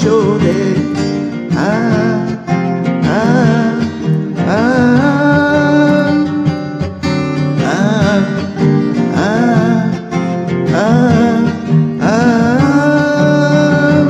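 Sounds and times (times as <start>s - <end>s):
acoustic guitar accompaniment: 0.0s - 14.0s
person singing long notes: 0.0s - 14.0s.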